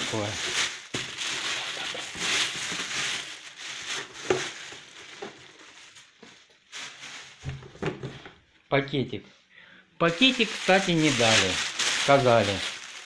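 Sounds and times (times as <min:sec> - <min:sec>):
plastic bag crinkling: 0:00.0 - 0:08.4, 0:10.0 - 0:13.0.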